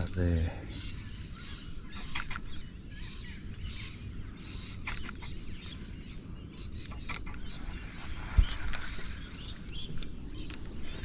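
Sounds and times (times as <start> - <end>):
birds chirping: 0.0 - 11.0
low rumble of wind or water: 0.0 - 11.0.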